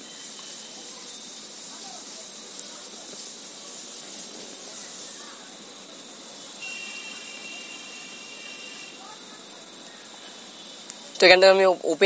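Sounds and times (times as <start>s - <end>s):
background hiss: 0.0s - 12.0s
faint high steady tone: 0.0s - 12.0s.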